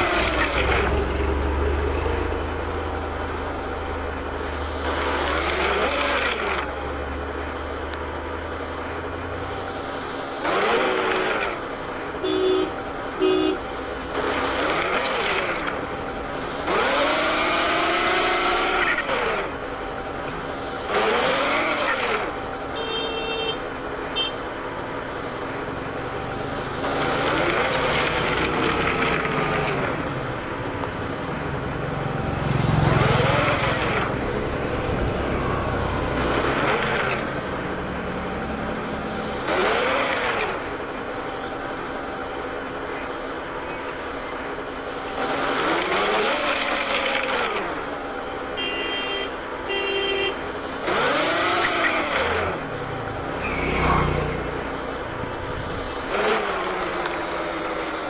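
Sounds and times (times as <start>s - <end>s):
vehicle engines revving: 0.0s - 58.0s.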